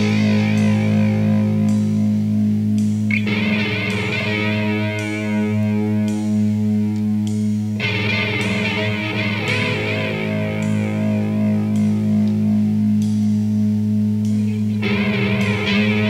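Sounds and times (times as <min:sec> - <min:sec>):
bass: 0:00.0 - 0:16.0
cymbal hits: 0:00.0 - 0:16.0
distorted electric guitar chords: 0:00.0 - 0:16.0
drums: 0:00.0 - 0:16.0.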